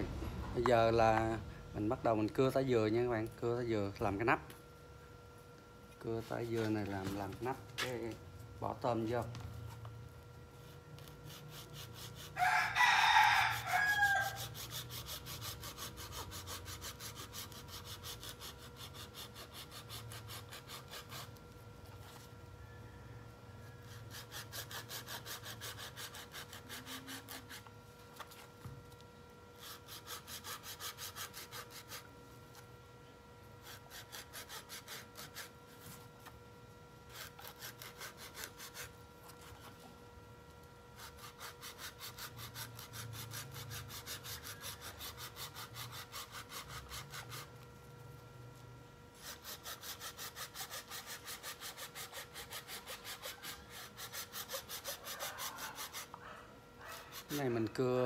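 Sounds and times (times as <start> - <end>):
saw cutting through coconut shell: 0.0 - 4.4, 6.0 - 9.4, 10.6 - 23.0, 23.6 - 28.8, 29.5 - 32.7, 33.5 - 36.3, 37.0 - 39.9, 40.6 - 47.7, 49.0 - 56.2, 56.8 - 58.0.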